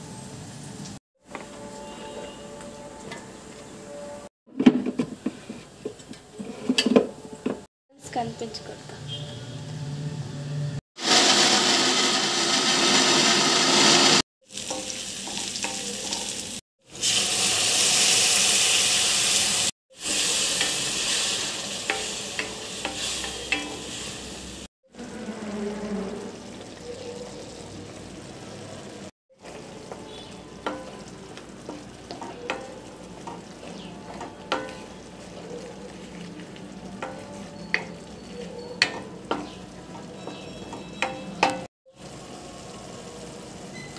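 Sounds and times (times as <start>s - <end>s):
masala sizzling in oil: 0.0s - 4.3s, 11.0s - 43.9s.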